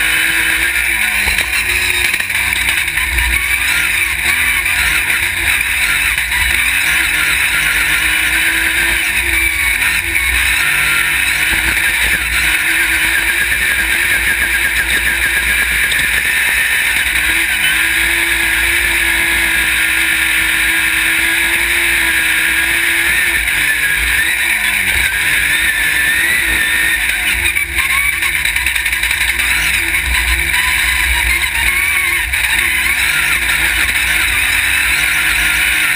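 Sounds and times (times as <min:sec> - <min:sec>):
buggy engine running: 0:00.0 - 0:35.9.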